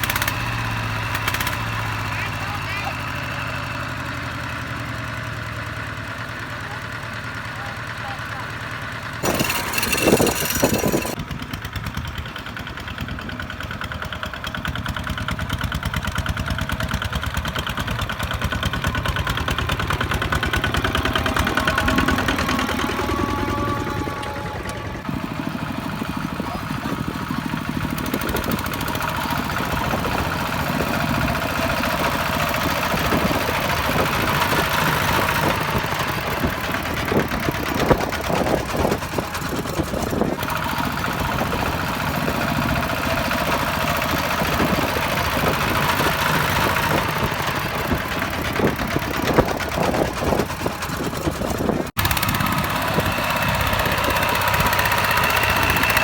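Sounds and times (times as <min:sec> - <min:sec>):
tractor diesel engine knocking: 0:00.0 - 0:56.0.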